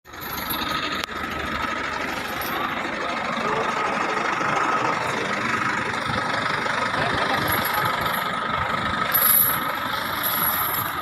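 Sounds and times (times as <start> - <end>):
vehicle engines running: 0.1 - 11.0.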